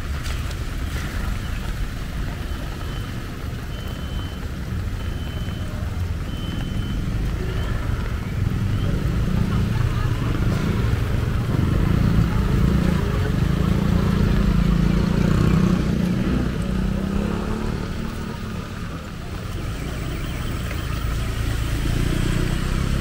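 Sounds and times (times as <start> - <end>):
hiss from wet road: 0.0 - 23.0
tricycle engine: 0.0 - 23.0
vehicle engines rumbling: 0.0 - 23.0.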